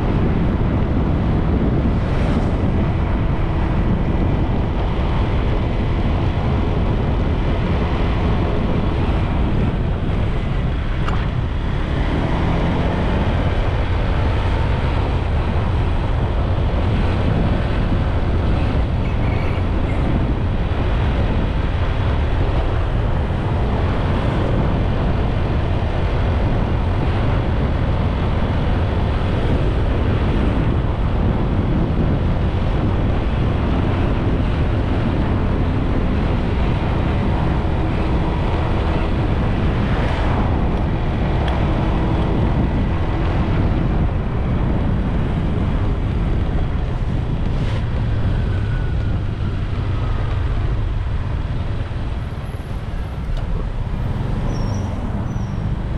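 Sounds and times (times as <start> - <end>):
road noise: 0.0 - 55.9
wind rushing over microphone: 0.0 - 55.9.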